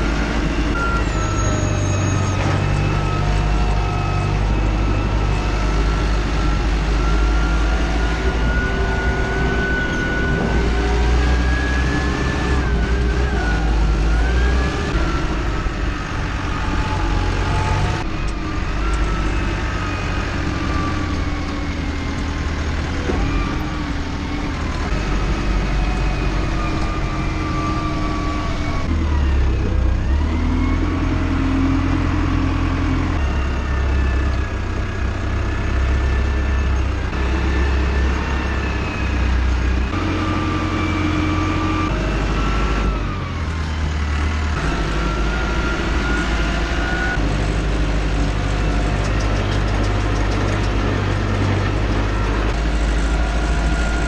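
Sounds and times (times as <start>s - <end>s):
tractor engine rumbling: 0.0s - 54.0s.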